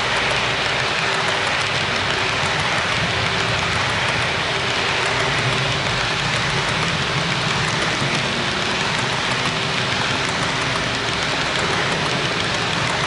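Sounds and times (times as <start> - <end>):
model train wheels rattling on track: 0.0 - 13.0.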